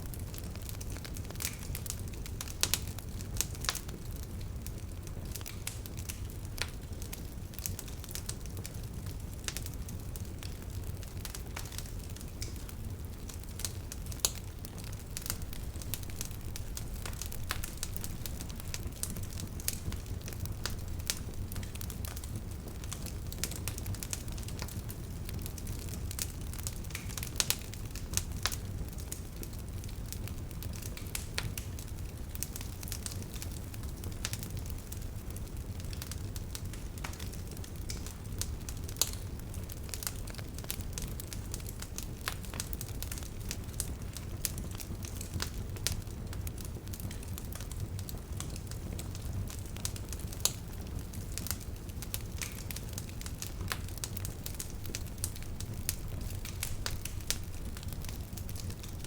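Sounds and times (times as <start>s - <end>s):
bonfire crackling and popping: 0.0s - 59.0s
fire low rumble: 0.0s - 59.0s.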